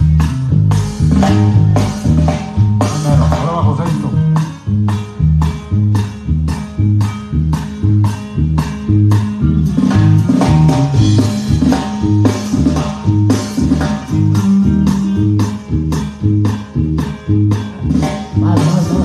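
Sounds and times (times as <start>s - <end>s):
drums: 0.0s - 19.0s
electric bass: 0.0s - 19.0s
guitar strumming: 0.0s - 19.0s.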